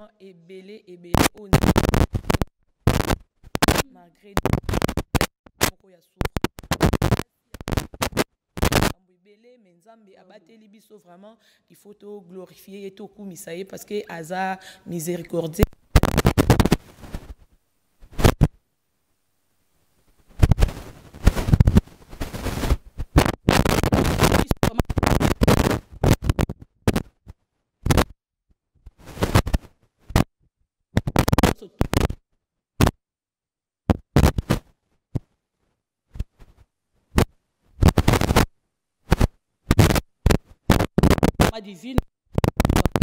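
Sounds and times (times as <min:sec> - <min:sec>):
distorted microphone crackling: 0:00.9 - 0:09.0, 0:13.7 - 0:28.2, 0:28.8 - 0:30.3, 0:30.9 - 0:33.0, 0:33.9 - 0:43.0.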